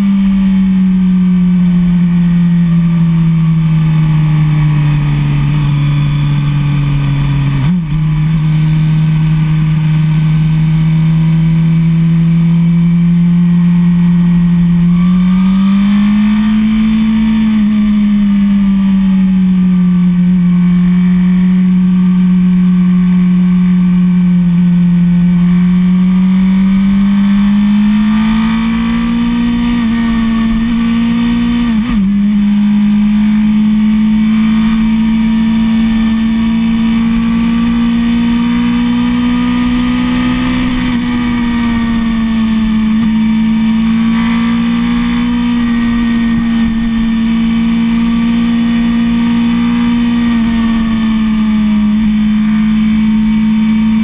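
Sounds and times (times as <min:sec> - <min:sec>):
motorcycle engine at high speed: 0:00.0 - 0:54.0.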